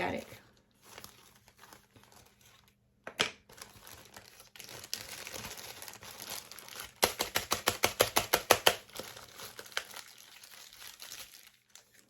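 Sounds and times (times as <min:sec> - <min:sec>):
plastic bag crinkling: 0:00.0 - 0:07.6, 0:08.7 - 0:12.0.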